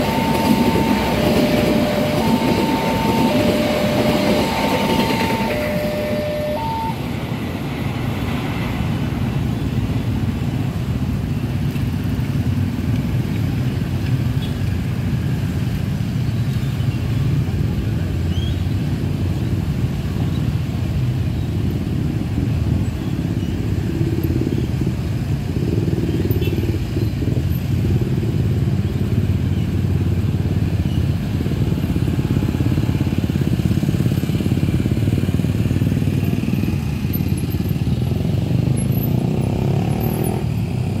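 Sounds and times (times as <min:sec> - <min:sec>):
motorcycle and car traffic rumble: 0:00.0 - 0:41.0.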